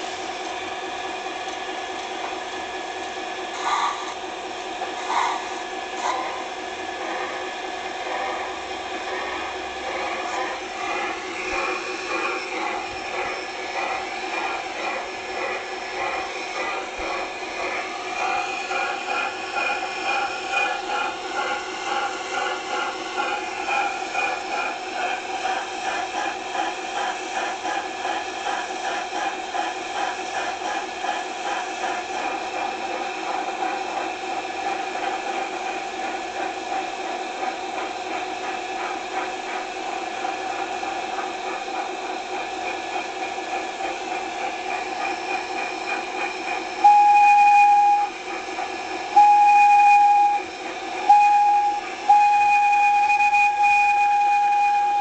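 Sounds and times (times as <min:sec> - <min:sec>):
clicking rattle of train: 0:00.0 - 0:55.0
train running whir: 0:00.0 - 0:55.0.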